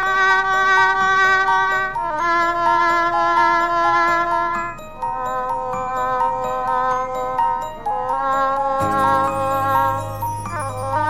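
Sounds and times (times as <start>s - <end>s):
slow tune of long held tones: 0.0s - 11.0s.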